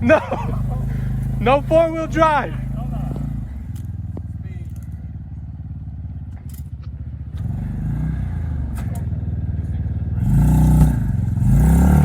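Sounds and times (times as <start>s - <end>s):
engine running and revving: 0.0s - 12.0s.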